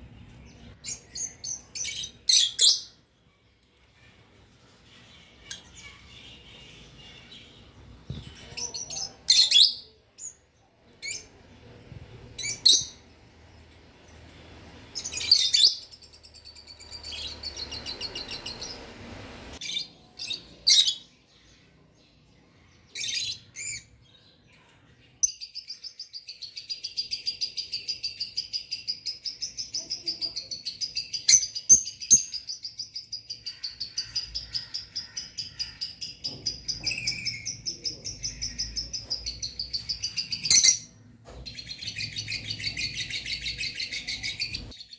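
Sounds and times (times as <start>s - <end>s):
lovebirds chirping: 0.0s - 44.9s.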